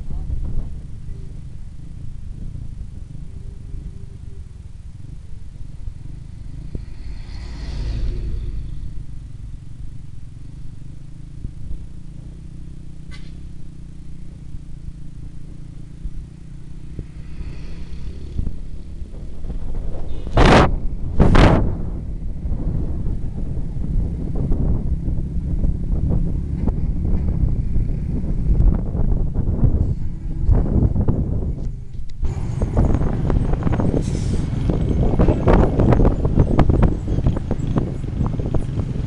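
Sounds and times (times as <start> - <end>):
wind noise: 0.0 - 12.4, 14.2 - 39.0
motorcycle engine rumble: 0.0 - 39.0
vehicles rushing past: 0.0 - 39.0.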